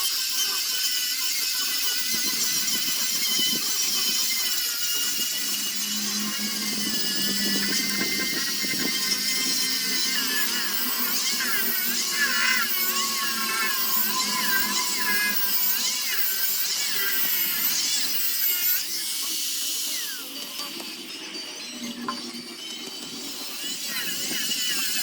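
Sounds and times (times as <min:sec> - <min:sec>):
rotary power tool cutting wood: 0:00.0 - 0:25.0.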